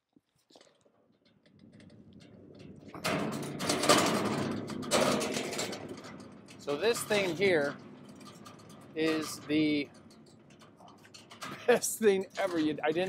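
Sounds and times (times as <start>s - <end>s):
metal cart wheels rolling on concrete: 0.5s - 13.0s
metal frame rattling: 0.5s - 13.0s.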